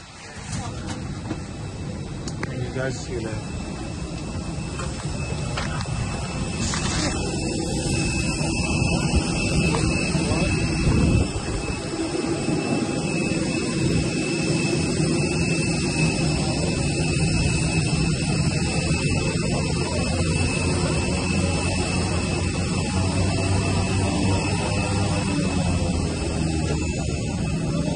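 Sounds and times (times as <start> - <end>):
engine drone: 0.0 - 27.9
high-pitched whines: 0.0 - 27.9.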